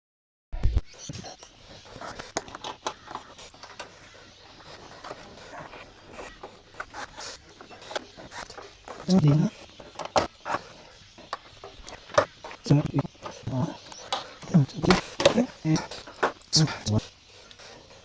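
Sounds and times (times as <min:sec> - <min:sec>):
clicks and knocks of bodywork: 0:01.0 - 0:18.0.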